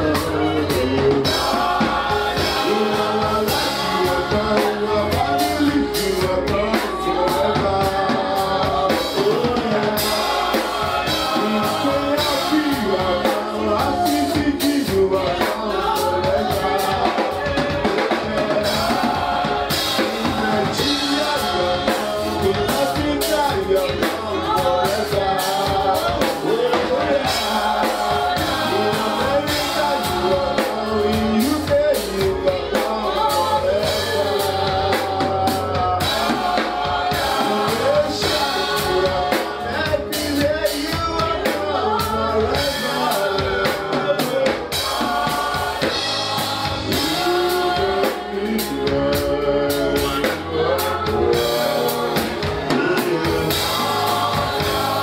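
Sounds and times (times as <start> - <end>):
band with drums: 0.0 - 55.0
congregation singing gospel song: 0.0 - 55.0.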